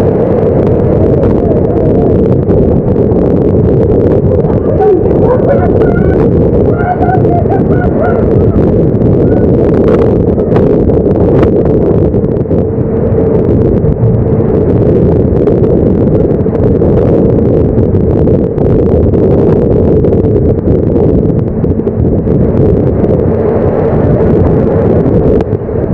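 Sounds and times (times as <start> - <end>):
steady hum: 0.0 - 25.9
storm wind buffeting microphone: 0.0 - 25.9.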